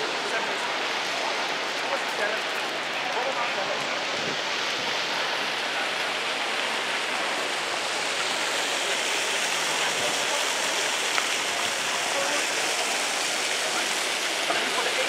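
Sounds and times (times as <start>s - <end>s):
fountain water splashing on stone: 0.0s - 15.0s.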